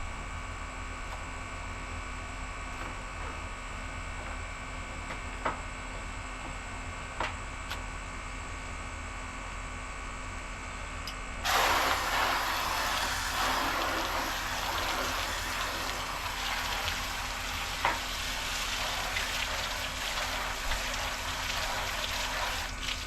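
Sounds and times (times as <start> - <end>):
low mains hum: 0.0 - 23.0.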